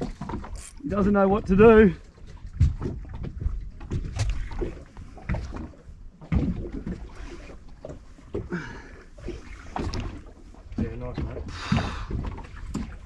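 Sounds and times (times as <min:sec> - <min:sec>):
knocks and clatters of fishing gear: 0:00.0 - 0:01.2, 0:02.2 - 0:08.6, 0:09.2 - 0:13.0
water slapping boat hull: 0:00.0 - 0:13.0.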